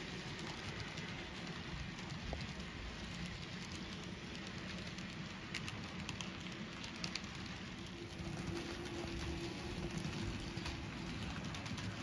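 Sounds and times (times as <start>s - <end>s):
model train wheels rattling: 0.0s - 12.0s.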